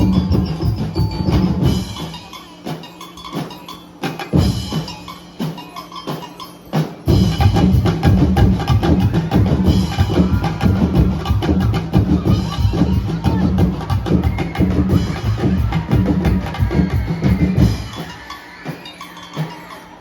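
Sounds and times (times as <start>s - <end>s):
percussion dance music: 0.0s - 20.0s.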